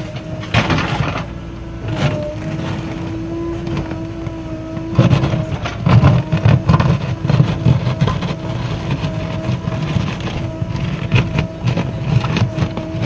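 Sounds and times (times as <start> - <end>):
diesel engine under load: 0.0 - 13.0
knocks and clatter: 0.0 - 13.0.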